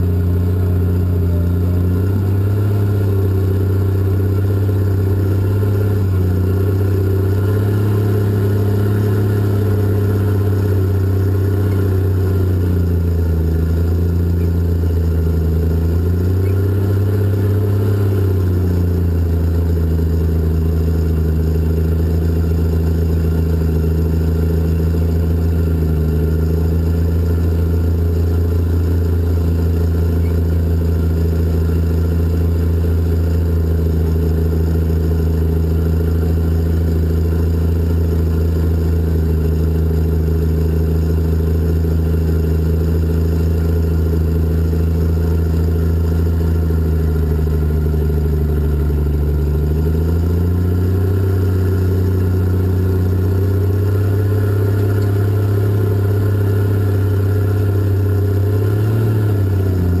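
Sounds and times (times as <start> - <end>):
diesel engine running loud: 0.0 - 60.0.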